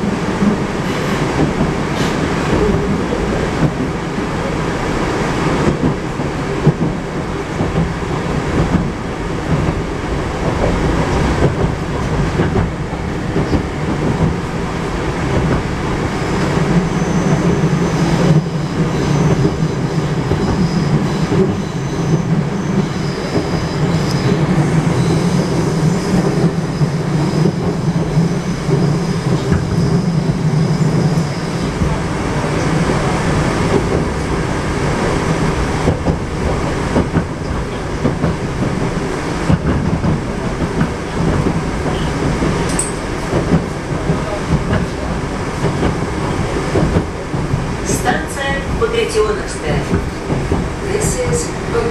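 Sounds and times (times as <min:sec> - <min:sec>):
metro train running with rail clatter: 0:00.0 - 0:51.9.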